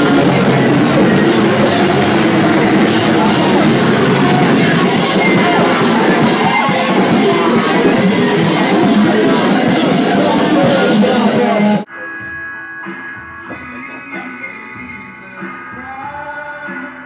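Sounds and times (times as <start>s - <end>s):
held notes: 0.0s - 14.9s
live rock music: 0.0s - 17.0s.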